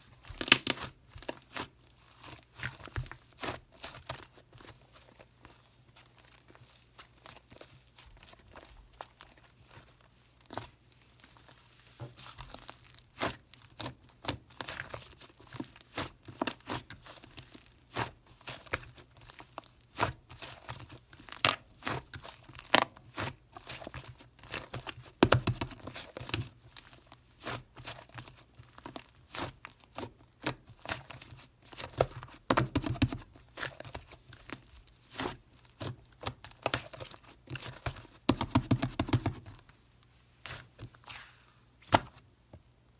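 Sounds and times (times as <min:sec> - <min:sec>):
slime being squished by hand: 0:00.2 - 0:39.7, 0:40.4 - 0:42.2.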